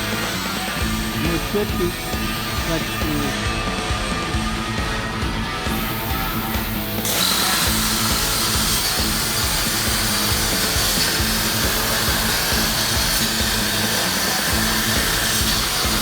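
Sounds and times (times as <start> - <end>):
background music: 0.0 - 16.0
laser cutter hissing: 0.0 - 16.0.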